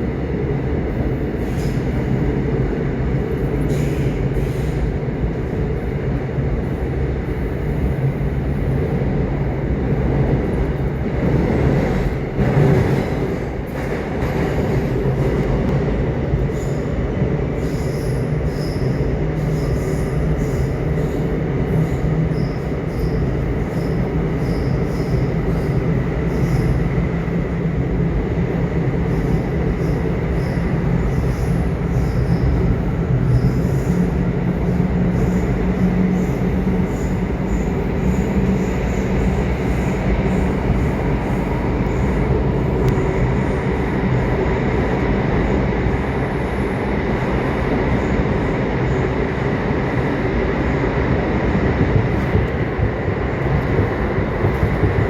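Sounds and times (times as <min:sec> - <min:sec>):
subway train wheels rumbling on rails: 0:00.0 - 0:55.0.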